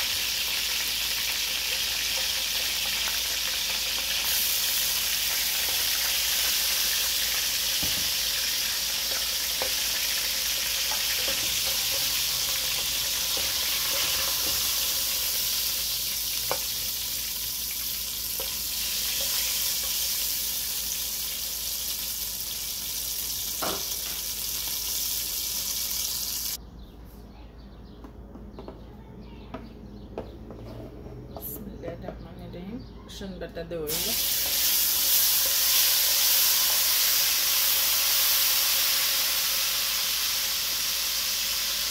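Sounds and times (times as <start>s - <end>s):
hot oil sizzling in a pot: 0.0s - 26.6s, 33.9s - 41.9s.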